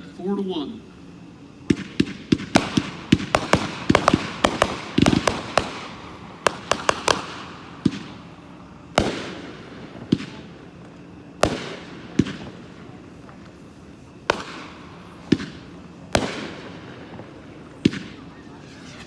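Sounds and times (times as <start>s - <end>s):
firework cake firing sharp bangs: 1.6s - 19.0s.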